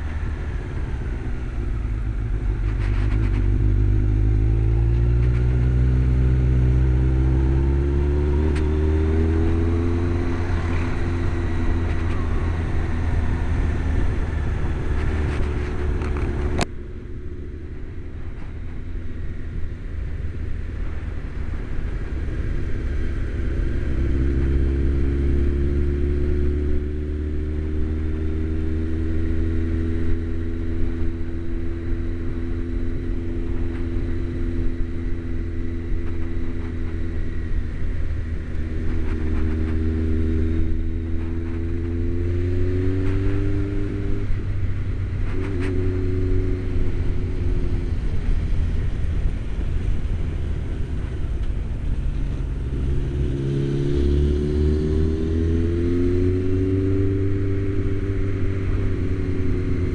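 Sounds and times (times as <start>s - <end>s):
wind noise: 0.0s - 16.8s, 17.7s - 59.9s
motorcycle engine running: 0.0s - 59.9s.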